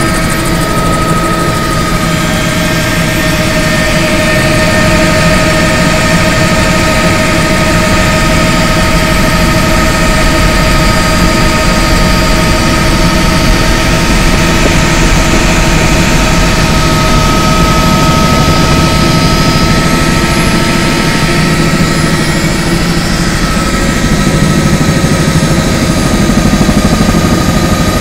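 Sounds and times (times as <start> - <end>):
helicopter engine and rotor drone: 0.0 - 28.0
high whine: 0.0 - 28.0.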